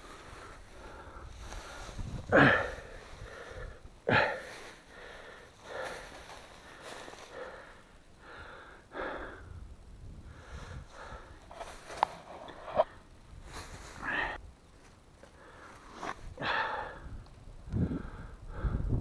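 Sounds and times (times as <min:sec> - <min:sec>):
man breathing heavily: 0:00.0 - 0:14.4, 0:15.2 - 0:19.0.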